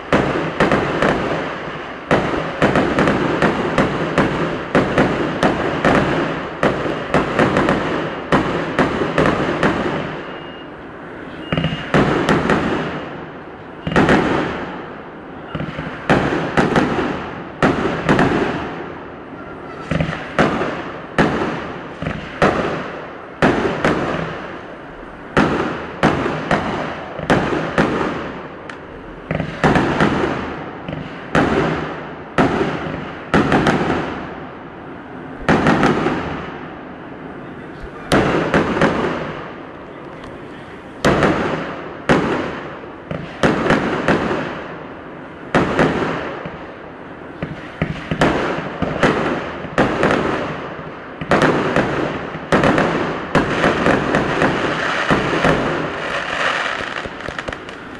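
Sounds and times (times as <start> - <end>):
fireworks bangs: 0.0 - 57.9.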